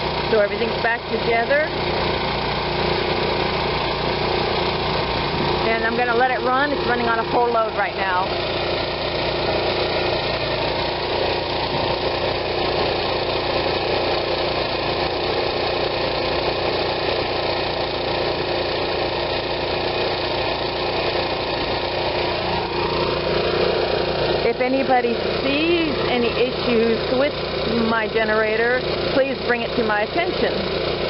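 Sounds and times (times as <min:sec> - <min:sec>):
generator engine running: 0:00.0 - 0:31.0.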